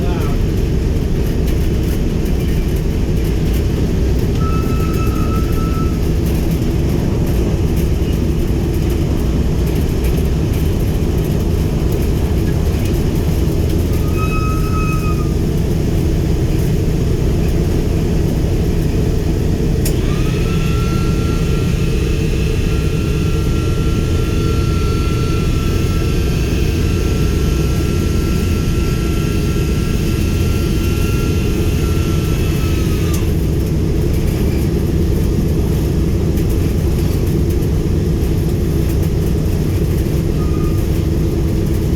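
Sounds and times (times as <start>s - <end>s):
radial aircraft engines running: 0.0s - 41.9s.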